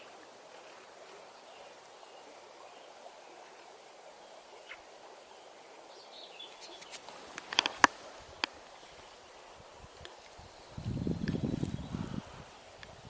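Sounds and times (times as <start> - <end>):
river water rushing: 0.0 - 11.1.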